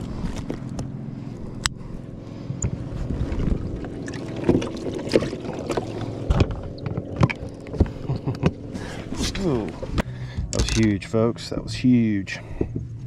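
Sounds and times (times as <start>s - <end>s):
boat motor hum: 0.0s - 13.0s.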